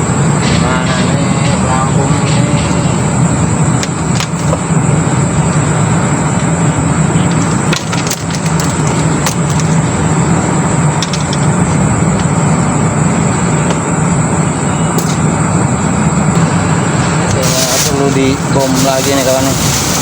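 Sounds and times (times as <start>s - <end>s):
low droning hum: 0.0s - 20.0s
noisy rush: 0.0s - 20.0s.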